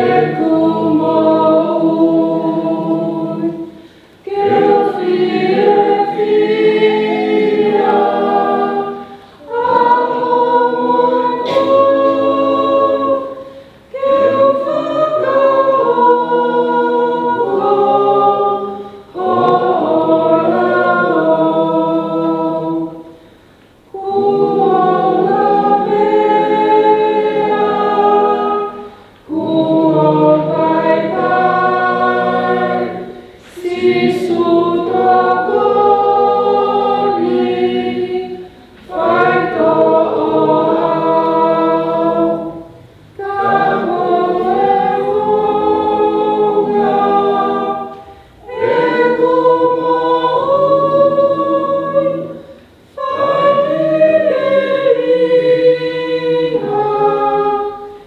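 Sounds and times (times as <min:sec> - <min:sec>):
family group singing: 0:00.0 - 0:58.0.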